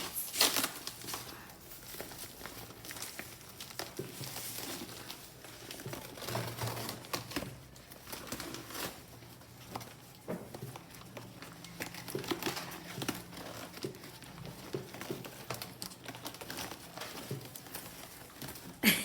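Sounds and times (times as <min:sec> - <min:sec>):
gift wrapping crinkling: 0:00.0 - 0:19.0.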